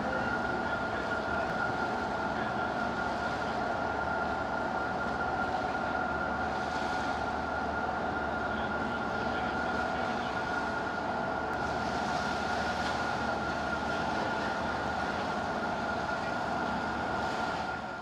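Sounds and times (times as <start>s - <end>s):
mechanical drone with high whine: 0.0s - 18.0s.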